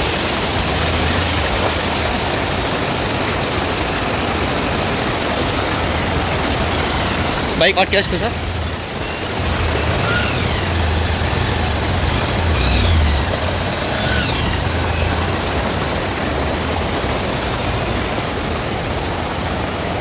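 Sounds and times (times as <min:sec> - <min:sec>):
motorcycle engine under load: 0:00.0 - 0:18.5
water rushing and splashing: 0:00.0 - 0:20.0.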